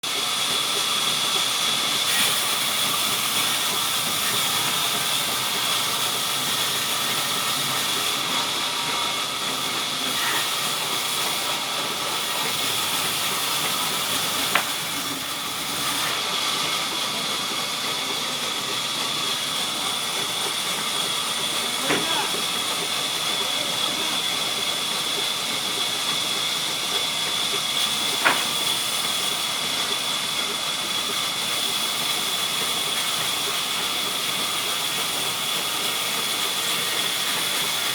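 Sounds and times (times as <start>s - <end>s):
sawmill saw hissing and whining: 0.0s - 37.9s.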